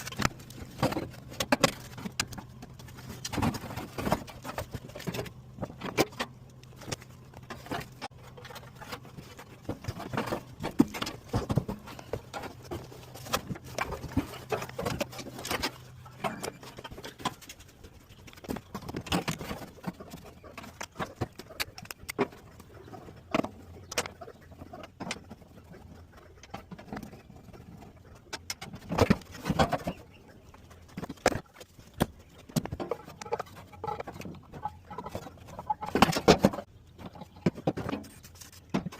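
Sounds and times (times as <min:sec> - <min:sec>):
hand tools and metal parts rattling: 0:00.0 - 0:38.9.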